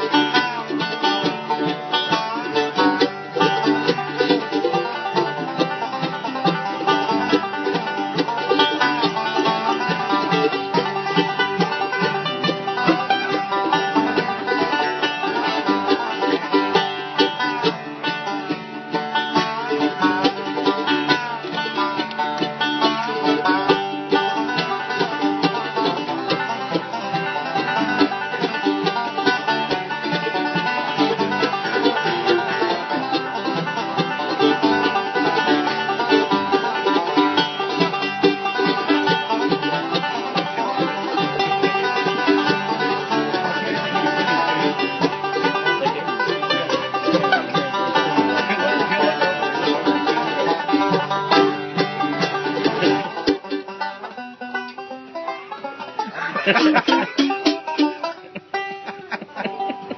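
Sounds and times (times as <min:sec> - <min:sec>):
banjo picking fast notes: 0:00.0 - 0:59.9.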